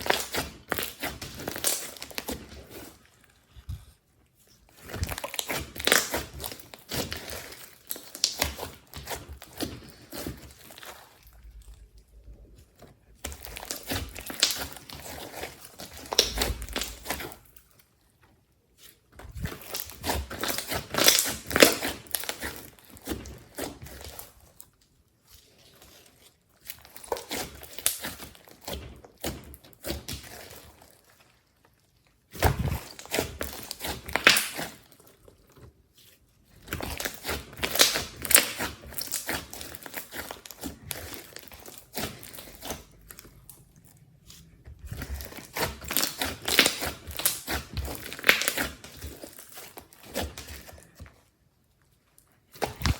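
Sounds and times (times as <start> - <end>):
slime crackling and popping: 0.0 - 3.0, 4.7 - 17.8, 18.8 - 31.4, 32.1 - 51.2, 52.2 - 52.9
hands squishing sticky slime: 0.0 - 52.9.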